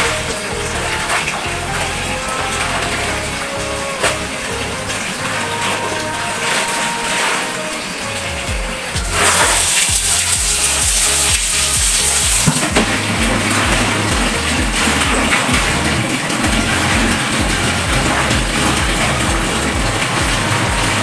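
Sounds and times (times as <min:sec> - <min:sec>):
music with stepping bass line: 0:00.0 - 0:07.3, 0:08.1 - 0:21.0.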